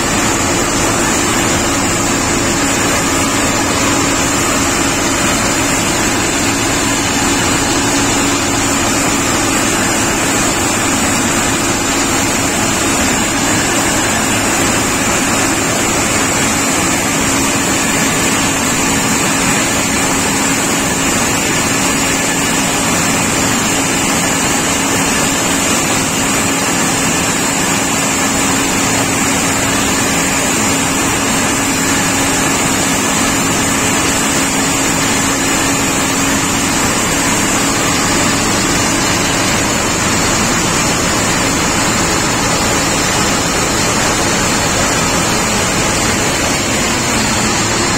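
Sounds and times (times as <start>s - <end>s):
combine harvester drone: 0.0s - 47.9s.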